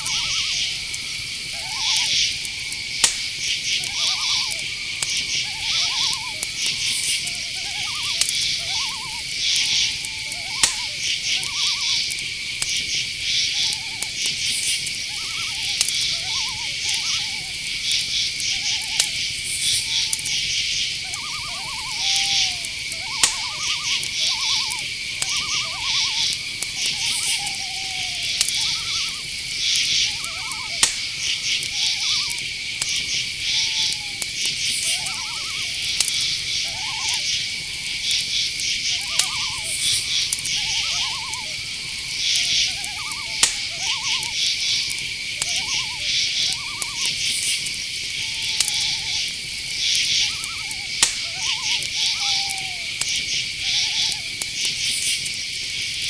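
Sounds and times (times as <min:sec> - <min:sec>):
owls calling: 0:00.0 - 0:55.4
sharp clicks: 0:00.0 - 0:55.4
crickets and insects trilling: 0:00.0 - 0:56.0.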